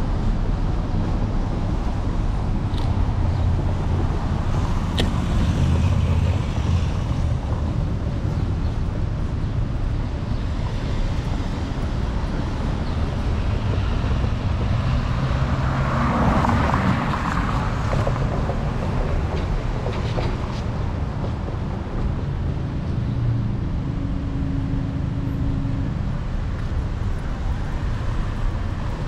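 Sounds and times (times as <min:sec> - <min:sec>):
city street traffic: 0:00.0 - 0:29.0
wind rumble on camera: 0:00.0 - 0:29.0.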